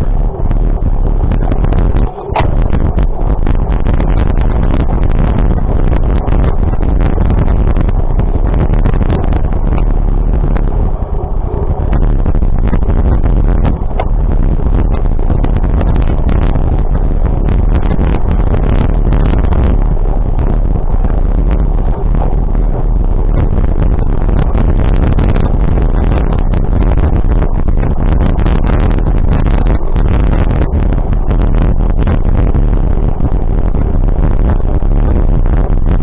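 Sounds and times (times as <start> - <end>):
vehicle engine rumble: 0.0 - 36.0.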